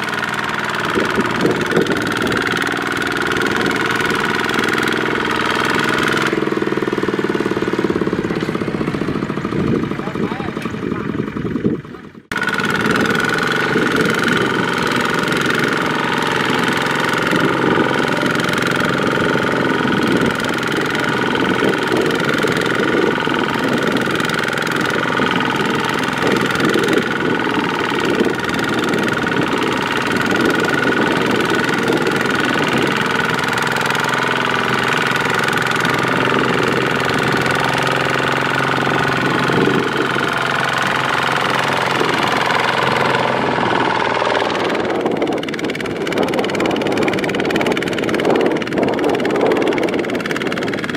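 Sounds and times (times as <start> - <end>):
farm machinery engine running: 0.0 - 50.9.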